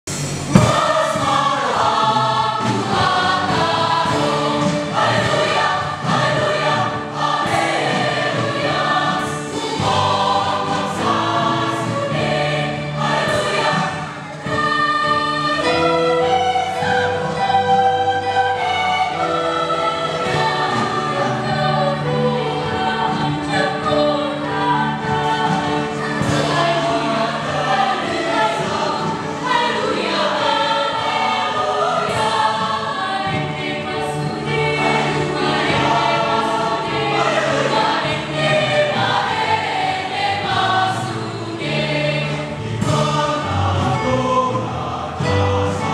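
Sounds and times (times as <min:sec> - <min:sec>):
choir singing: 0:00.2 - 0:45.9.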